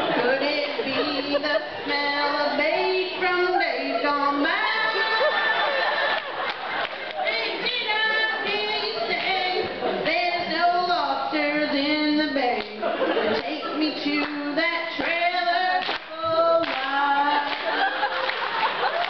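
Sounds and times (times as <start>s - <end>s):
woman singing into a microphone: 0.0s - 5.9s, 7.1s - 17.9s.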